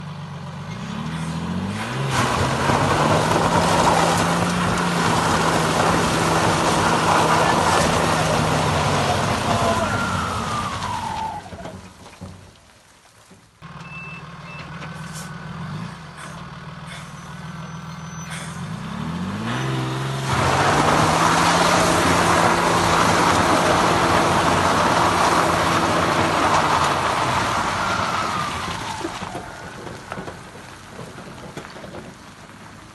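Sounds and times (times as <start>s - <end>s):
diesel engine revving: 0.0s - 11.9s, 13.6s - 32.9s.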